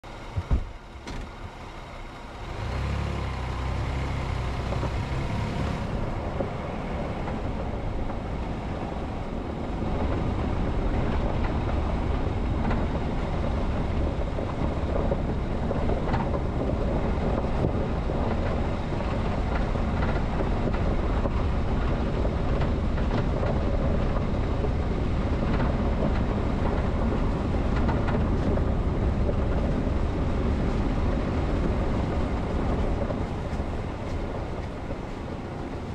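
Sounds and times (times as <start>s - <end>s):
vehicle engine and road rumble: 0.0s - 35.9s.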